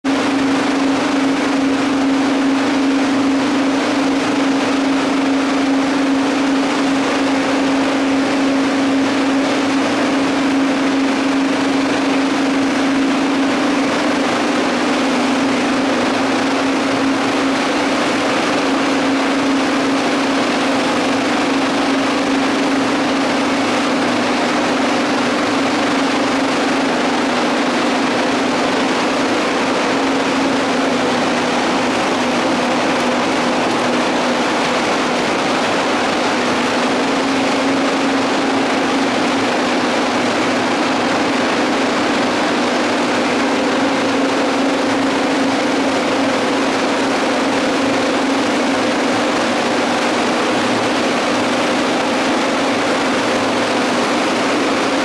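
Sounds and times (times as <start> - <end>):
grinding mill machinery humming: 0.0 - 55.0.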